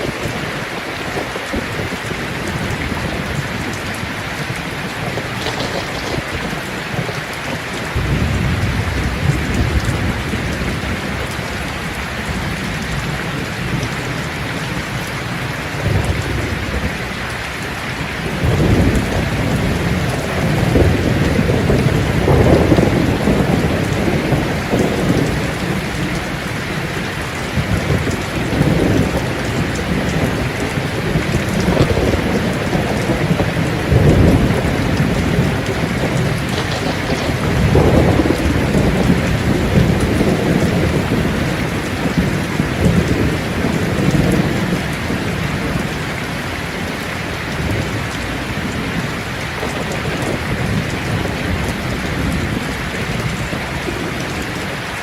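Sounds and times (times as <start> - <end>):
rolling thunder: 0.0 - 17.4, 18.1 - 54.6
heavy rain falling: 0.0 - 55.0.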